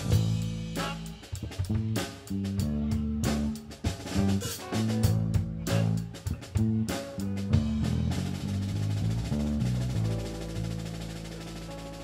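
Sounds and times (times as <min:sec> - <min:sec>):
electric bass: 0:00.0 - 0:12.0
electric guitar: 0:00.0 - 0:12.0
live band playing: 0:00.0 - 0:12.0.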